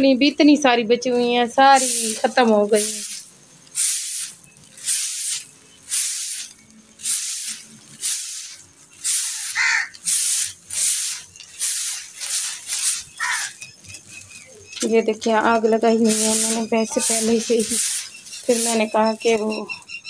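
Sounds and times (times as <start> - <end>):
broom sweeping concrete floor: 1.0 - 19.6.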